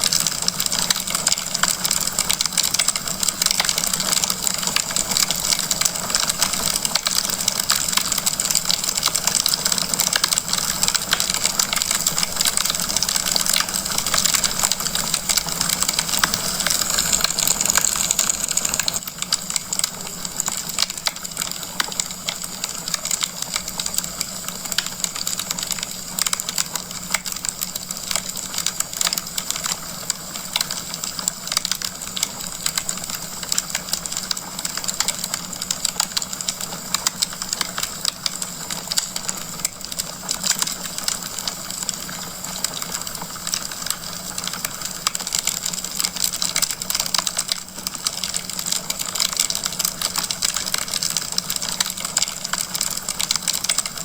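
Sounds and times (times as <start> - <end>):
wood logs crackling in fireplace: 0.0 - 54.0.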